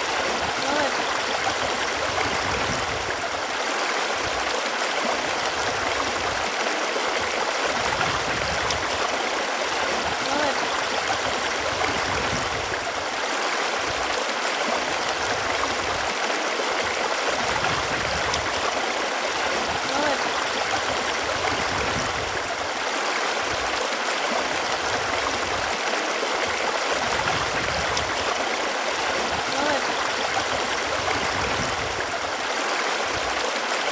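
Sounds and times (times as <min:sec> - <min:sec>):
running water flowing: 0:00.0 - 0:33.9.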